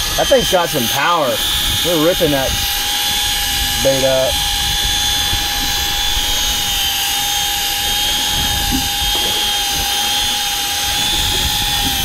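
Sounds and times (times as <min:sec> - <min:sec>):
steady mechanical whine: 0:00.0 - 0:12.0
low rumble: 0:01.4 - 0:12.0.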